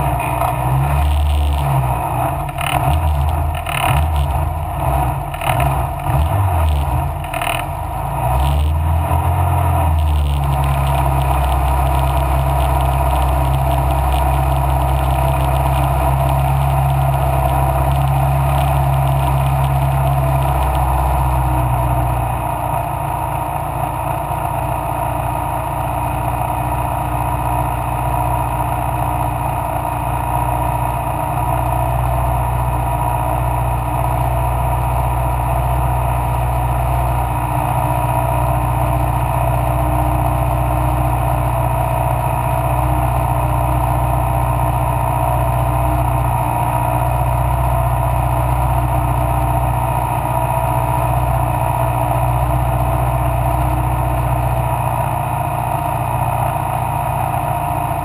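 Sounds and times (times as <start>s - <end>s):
racing car engine running hard: 0.0s - 58.0s.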